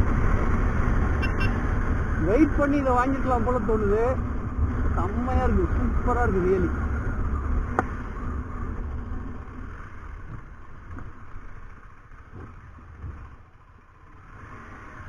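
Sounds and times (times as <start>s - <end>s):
low wind rumble: 0.0s - 15.0s
motorcycle engine running: 0.0s - 15.0s.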